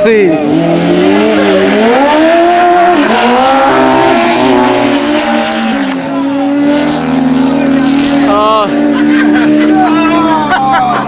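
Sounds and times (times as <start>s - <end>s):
motorcycles accelerating hard: 0.0s - 11.0s.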